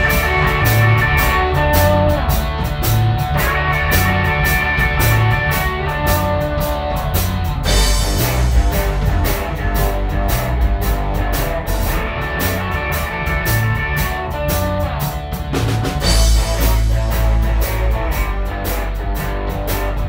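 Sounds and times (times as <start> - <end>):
drums: 0.0 - 20.0
electric guitar: 0.0 - 20.0.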